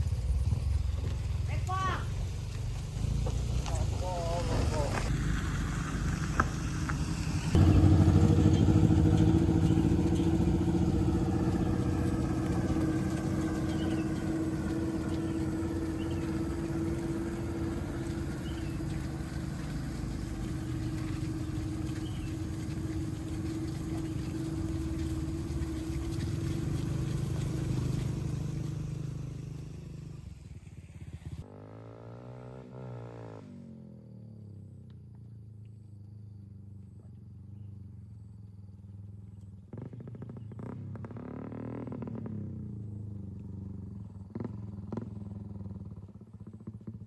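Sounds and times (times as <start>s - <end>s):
vehicle engine running: 0.0s - 31.7s, 36.4s - 47.0s.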